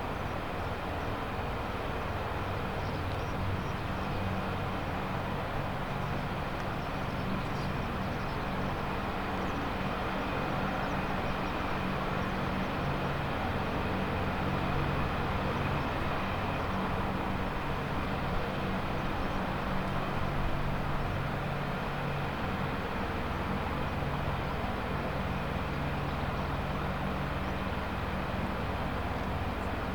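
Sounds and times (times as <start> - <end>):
helicopter turbine and rotor noise: 0.0 - 29.9.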